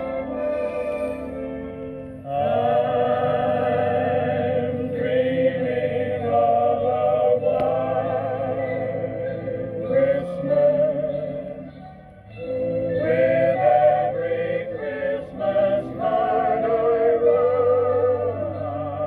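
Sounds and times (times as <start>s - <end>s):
vinyl record of voices singing: 0.0s - 19.0s.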